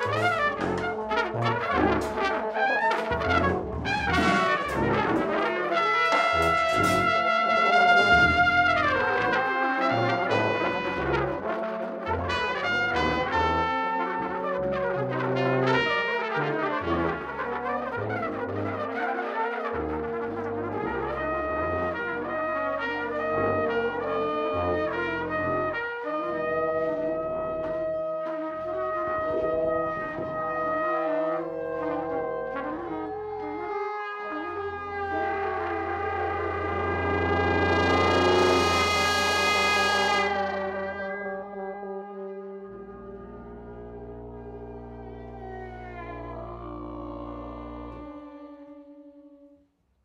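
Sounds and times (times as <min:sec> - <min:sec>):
low bass notes: 0:00.0 - 0:02.5, 0:03.1 - 0:18.9, 0:19.8 - 0:25.8, 0:28.6 - 0:33.2, 0:34.5 - 0:48.6
large jazz band playing: 0:00.0 - 0:41.7
trumpets and trombones: 0:00.0 - 0:48.8.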